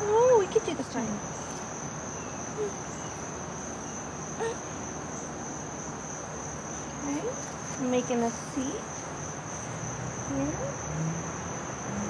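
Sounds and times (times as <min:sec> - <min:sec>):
crickets trilling: 0:00.0 - 0:12.0
faint outdoor hiss: 0:00.0 - 0:12.0.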